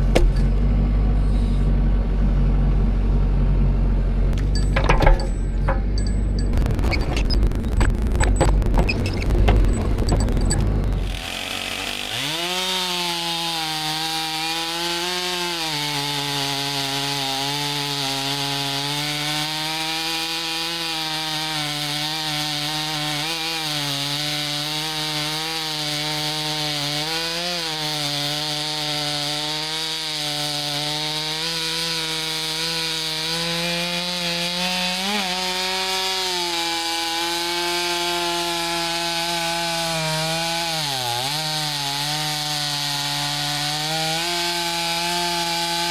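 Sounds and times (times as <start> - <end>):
chainsaw cutting logs: 0.0 - 2.5, 4.1 - 45.9.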